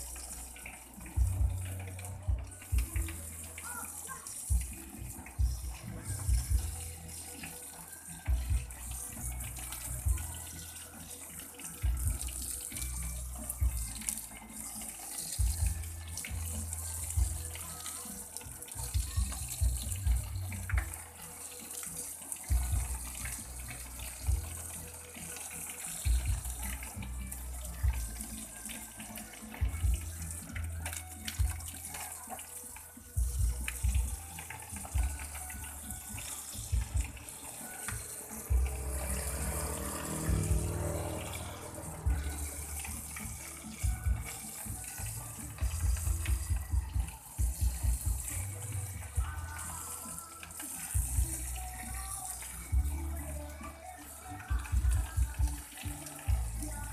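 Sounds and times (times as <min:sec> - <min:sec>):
water running: 0:00.0 - 0:56.9.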